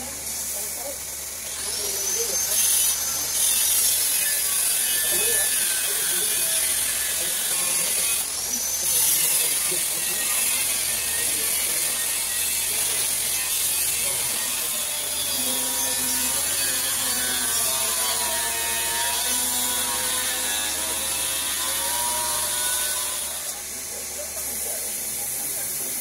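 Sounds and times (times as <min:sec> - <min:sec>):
grinding machine motor whine: 0:00.0 - 0:26.0
steel grinding on belt grinder: 0:00.0 - 0:26.0.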